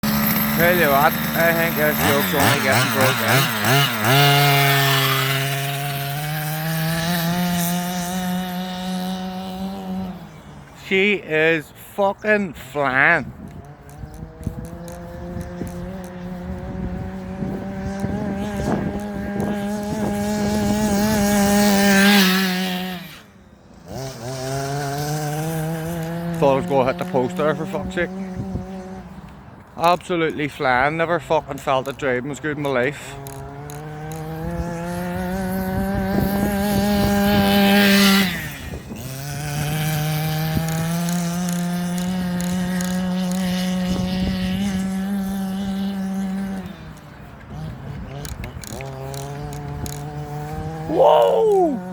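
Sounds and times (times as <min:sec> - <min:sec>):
small two-stroke engine revving: 0:00.0 - 0:11.0, 0:11.6 - 0:51.9.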